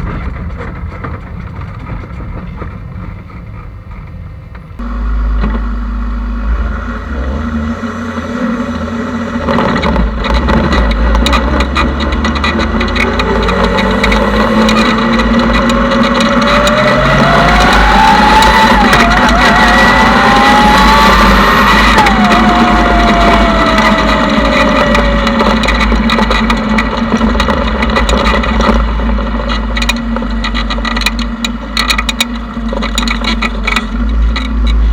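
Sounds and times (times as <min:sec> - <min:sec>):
engine droning: 0:00.0 - 0:34.9
loud crackling rattling noise: 0:00.0 - 0:34.9.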